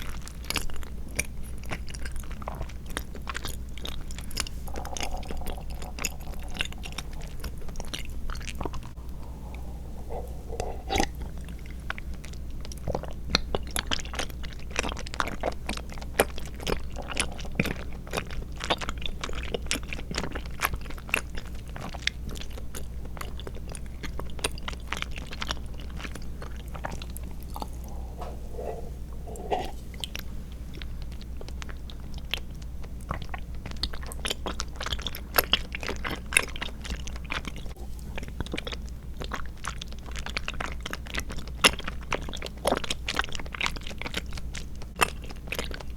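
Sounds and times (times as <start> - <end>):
mouth chewing clicks and smacks: 0.0 - 45.9.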